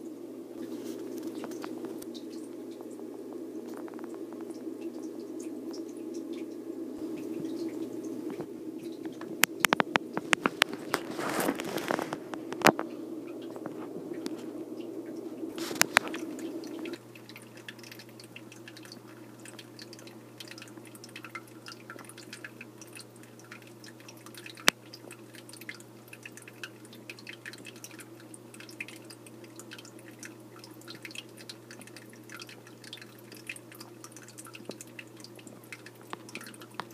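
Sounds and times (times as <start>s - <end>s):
low pump hum: 0.0s - 36.9s
water trickling and dripping: 0.0s - 36.9s
water splashes and clicks: 0.6s - 36.9s.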